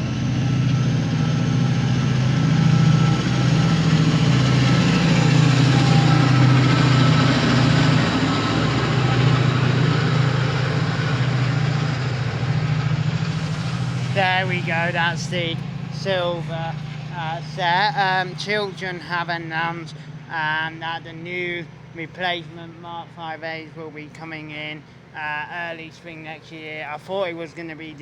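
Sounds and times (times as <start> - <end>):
diesel locomotive engine: 0.0 - 28.0
train noise: 0.0 - 28.0.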